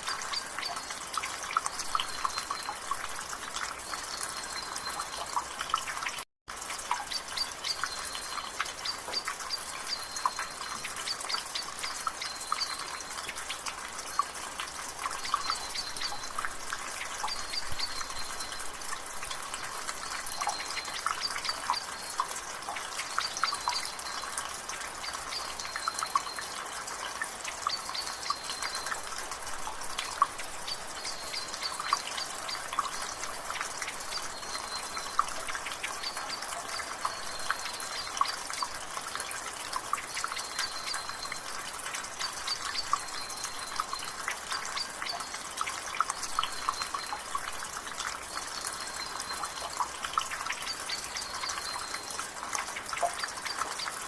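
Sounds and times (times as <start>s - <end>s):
rain: 0.0s - 54.0s
water dripping from gutter: 0.0s - 54.0s.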